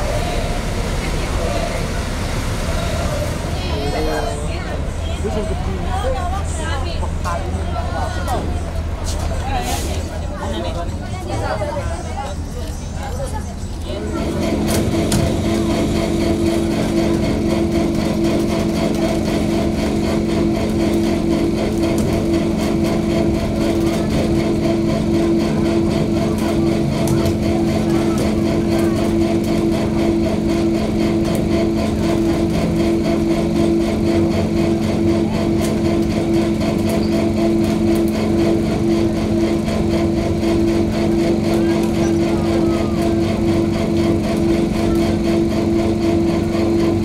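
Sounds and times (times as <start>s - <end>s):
ferry engines droning: 0.0s - 47.0s.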